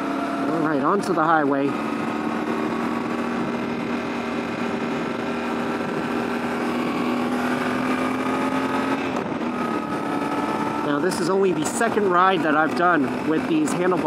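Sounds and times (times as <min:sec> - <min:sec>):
motorcycle engine pulling steadily: 0:00.0 - 0:14.0
wind and road noise: 0:00.0 - 0:14.0.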